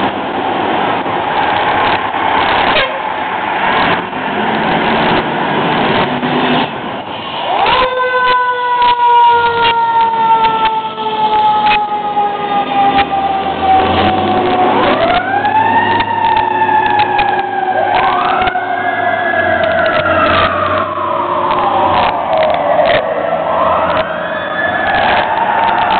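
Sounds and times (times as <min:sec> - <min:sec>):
truck engine hum: 0:00.0 - 0:07.6, 0:09.2 - 0:25.9
fire engine siren wailing: 0:00.0 - 0:25.9.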